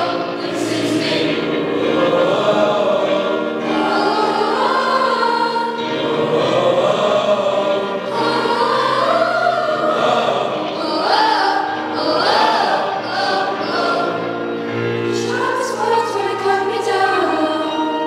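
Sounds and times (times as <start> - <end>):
children's choir singing: 0.0 - 18.0
piano accompaniment: 0.0 - 18.0.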